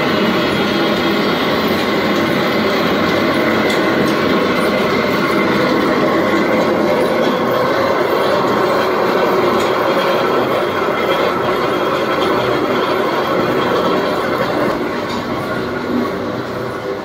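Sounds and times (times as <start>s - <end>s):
machine running with steady hum: 0.0s - 17.0s.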